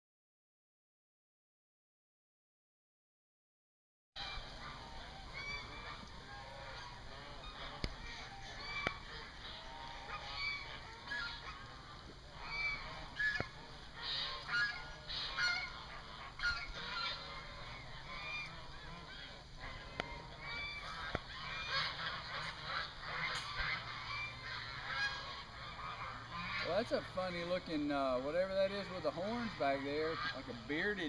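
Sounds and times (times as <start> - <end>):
geese honking: 4.2 - 31.0.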